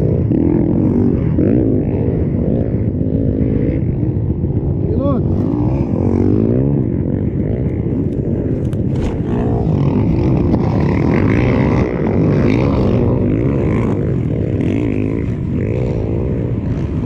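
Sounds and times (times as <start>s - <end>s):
motorcycles racing engines revving: 0.0s - 17.0s.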